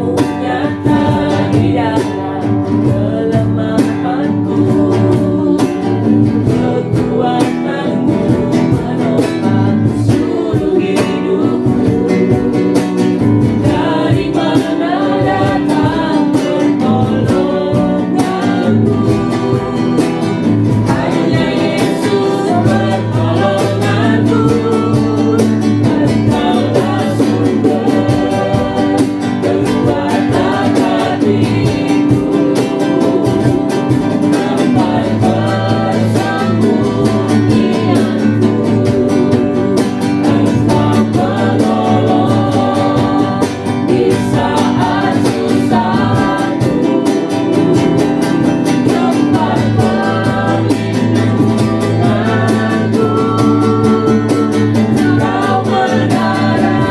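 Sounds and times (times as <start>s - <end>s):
gospel singing: 0.0s - 56.9s
guitar accompaniment: 0.0s - 56.9s.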